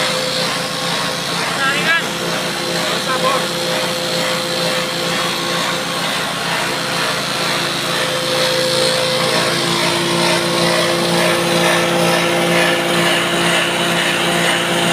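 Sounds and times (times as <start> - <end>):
grass chopper motor droning: 0.0 - 14.9
spinning cutter hiss: 0.0 - 14.9.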